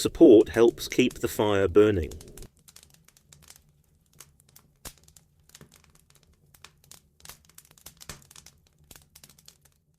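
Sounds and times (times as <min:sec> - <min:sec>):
fireplace fire crackling: 0:00.0 - 0:09.9.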